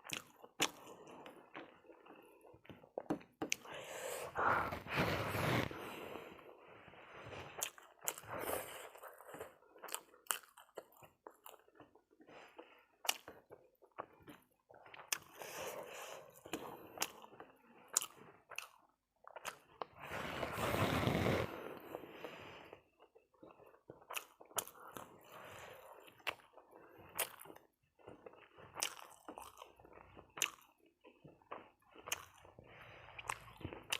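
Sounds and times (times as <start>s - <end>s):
person chewing food: 0.0s - 20.2s, 20.9s - 33.9s.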